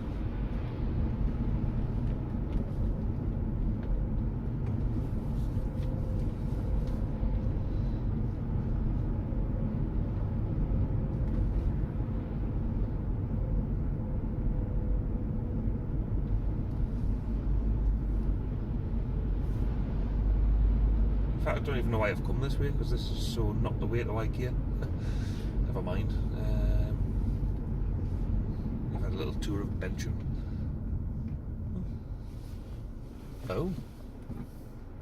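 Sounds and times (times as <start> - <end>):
car engine and tyres rumbling: 0.0 - 35.0.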